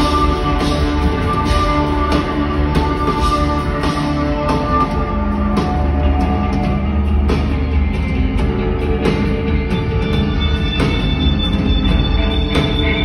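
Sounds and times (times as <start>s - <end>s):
heavy booming bass: 0.0s - 13.0s.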